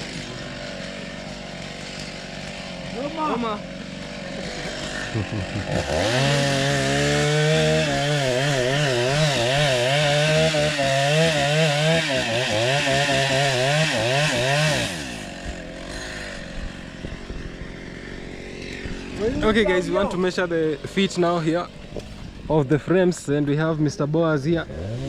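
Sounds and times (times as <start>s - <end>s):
power saw cutting timber: 0.0s - 25.0s.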